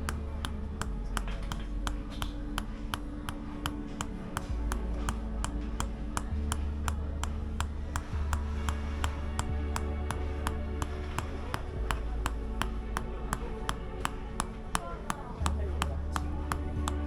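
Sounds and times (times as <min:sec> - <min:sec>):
low background music: 0:00.0 - 0:17.0
wooden mallet tapping wooden wedge: 0:00.0 - 0:17.0.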